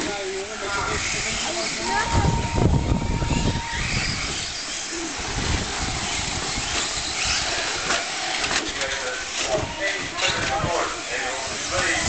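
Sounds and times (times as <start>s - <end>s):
rc trucks motors hissing: 0.0s - 12.0s.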